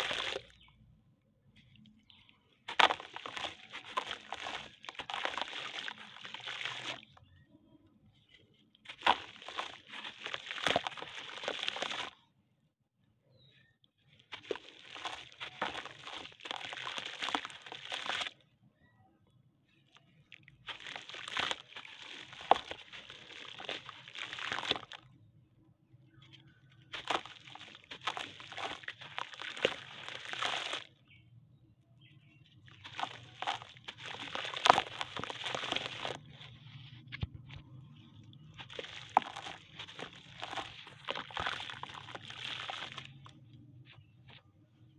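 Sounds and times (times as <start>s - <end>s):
wet soil crunching in hands: 0.0s - 0.8s, 1.4s - 7.5s, 8.2s - 12.3s, 14.0s - 18.4s, 19.7s - 25.2s, 26.1s - 31.2s, 32.2s - 44.9s.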